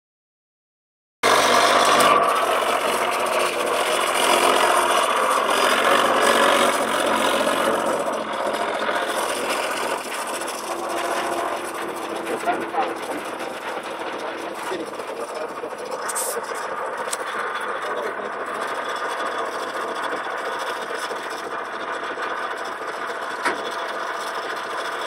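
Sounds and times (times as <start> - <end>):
model tractor running: 1.2 - 25.0.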